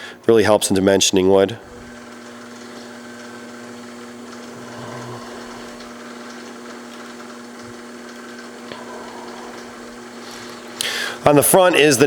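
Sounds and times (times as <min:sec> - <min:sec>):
electric motor hum: 0:01.4 - 0:12.0.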